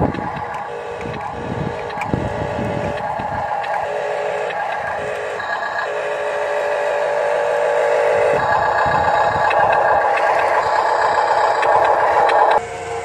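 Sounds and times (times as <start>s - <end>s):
toy truck motor whining: 0.0s - 13.0s.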